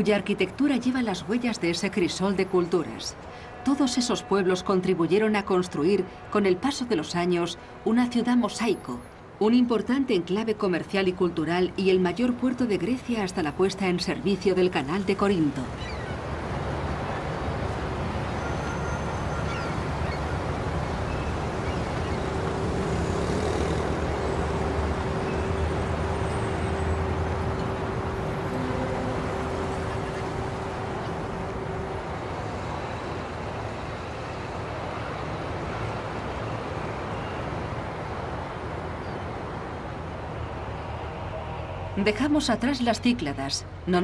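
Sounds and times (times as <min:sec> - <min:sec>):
ferry engines low rumble: 0:00.0 - 0:44.0.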